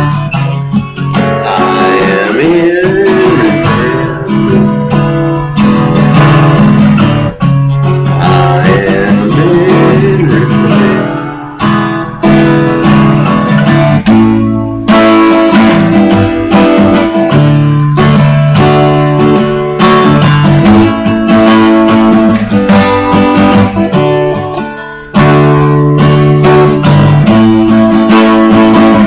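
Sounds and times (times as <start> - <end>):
strummed acoustic guitar song: 0.0 - 29.0.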